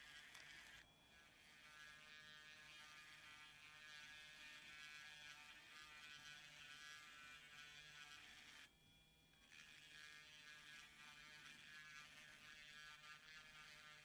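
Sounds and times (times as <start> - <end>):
rotary tool whining: 0.0 - 14.0.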